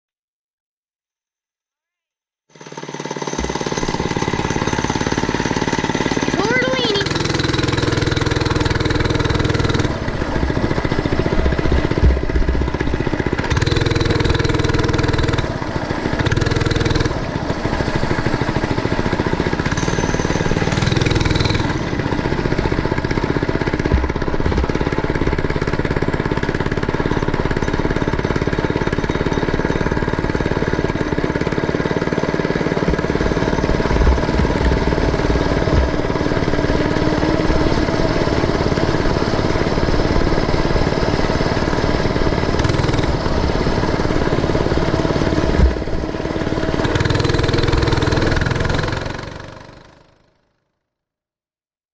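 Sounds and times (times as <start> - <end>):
mini bike engine running: 2.5 - 50.4.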